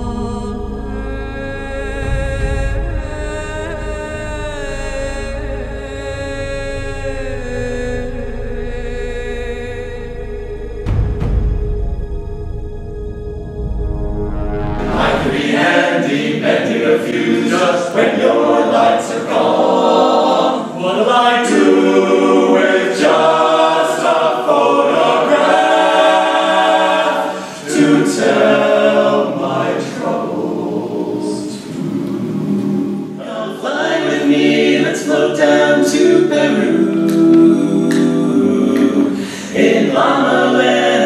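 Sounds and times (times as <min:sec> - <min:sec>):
men's chorus singing a cappella: 0:00.0 - 0:11.2, 0:14.8 - 0:41.0.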